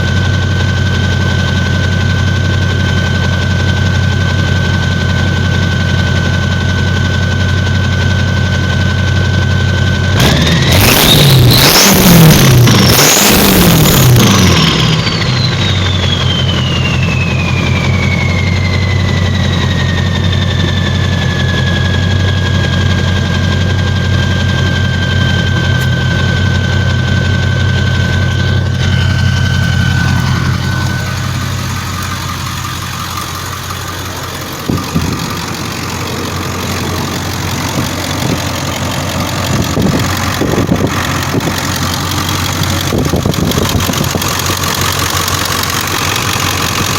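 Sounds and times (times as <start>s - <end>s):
diesel engine idling: 0.0s - 46.9s
turbo whistle winding down: 0.0s - 46.9s.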